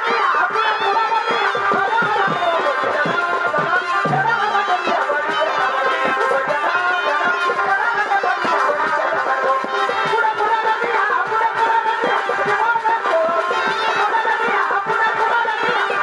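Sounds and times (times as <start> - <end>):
quick folk drumming: 0.0 - 16.0.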